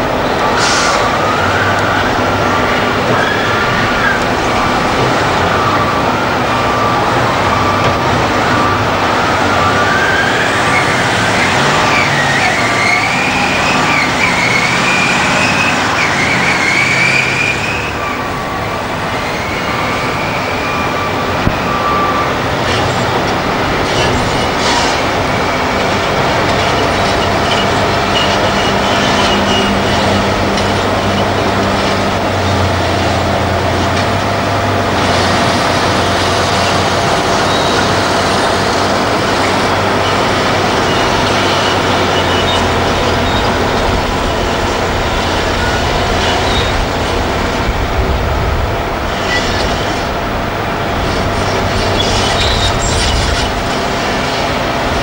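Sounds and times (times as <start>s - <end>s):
dump truck engine whine: 0.0s - 55.0s
excavator diesel engine: 0.0s - 55.0s.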